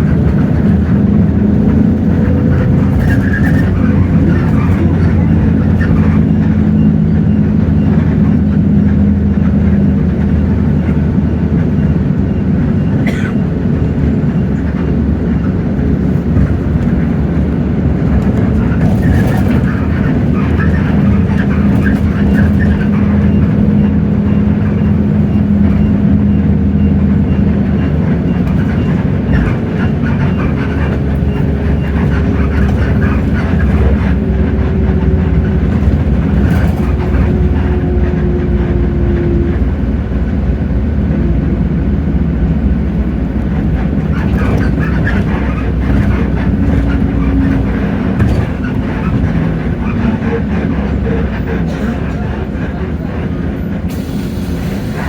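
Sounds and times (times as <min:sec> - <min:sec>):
bus diesel engine running: 0:00.0 - 0:55.0
road noise and rumble: 0:00.0 - 0:55.0.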